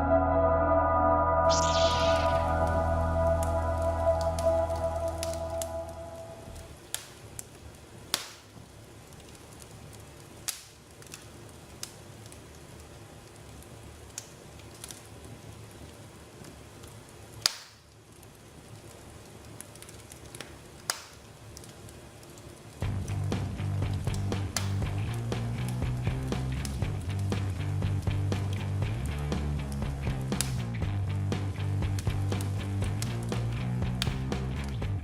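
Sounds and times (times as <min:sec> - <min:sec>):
bonfire crackling and popping: 0:01.5 - 0:35.0.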